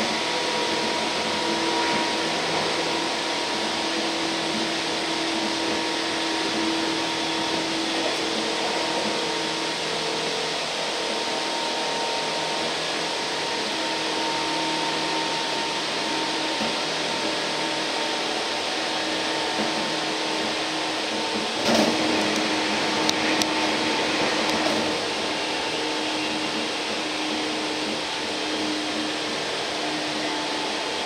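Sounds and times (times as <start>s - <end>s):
steady humming tones: 0.0s - 31.0s
train wheels and motors rumbling: 0.0s - 31.0s.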